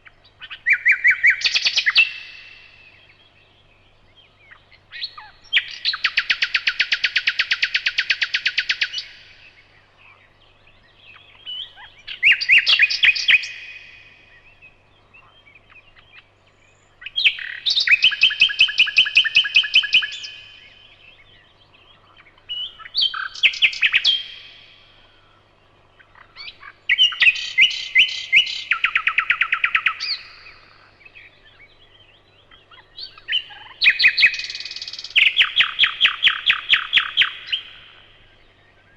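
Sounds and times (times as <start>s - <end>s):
songbird trilling: 0.0s - 38.9s.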